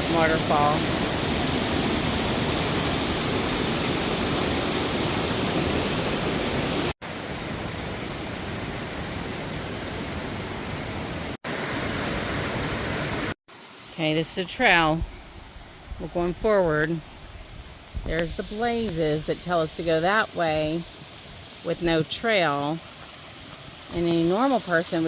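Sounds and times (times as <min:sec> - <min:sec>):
rush of falling water: 0:00.0 - 0:25.0.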